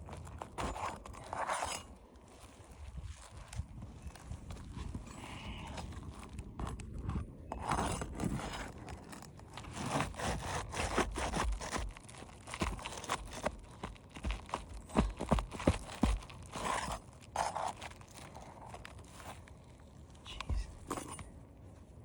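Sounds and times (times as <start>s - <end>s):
roof shingle scraping and crunching: 0.0s - 21.3s.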